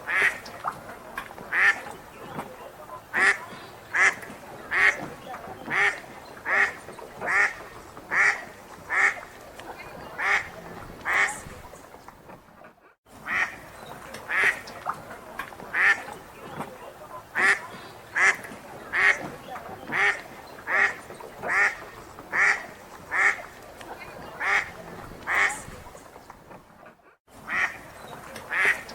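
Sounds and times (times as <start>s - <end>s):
ducks quacking: 0.0s - 28.9s.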